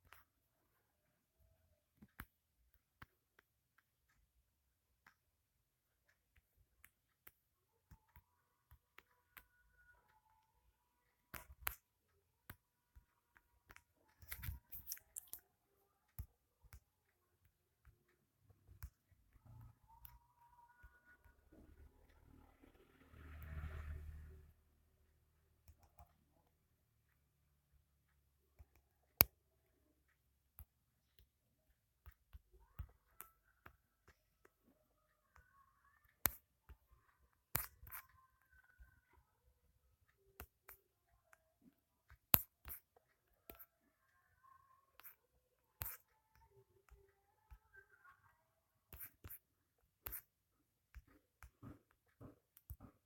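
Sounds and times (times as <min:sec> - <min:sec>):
faint clicks and taps: 0:00.0 - 0:23.8, 0:24.8 - 0:53.0.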